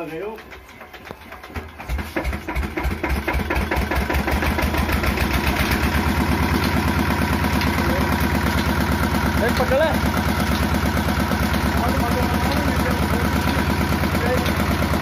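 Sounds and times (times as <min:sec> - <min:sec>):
diesel engine starting and running: 0:00.0 - 0:15.0.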